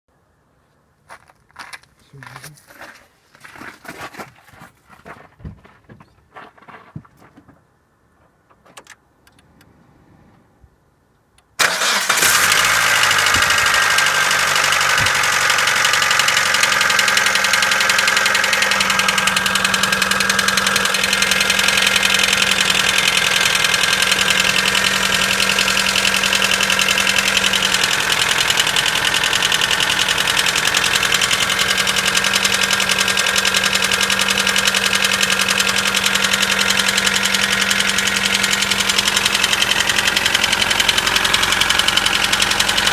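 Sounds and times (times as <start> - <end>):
car engine starting and idling: 7.8 - 42.9.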